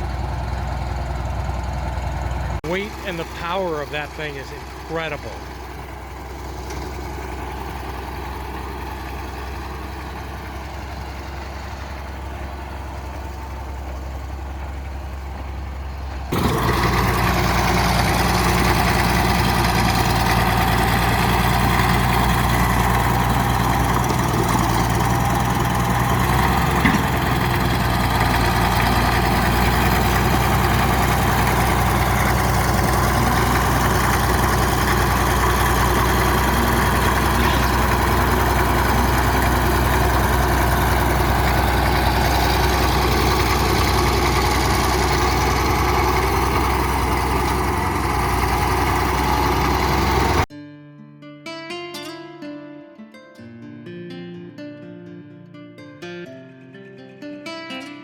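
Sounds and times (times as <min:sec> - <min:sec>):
bulldozer diesel engine running: 0:00.0 - 0:50.5.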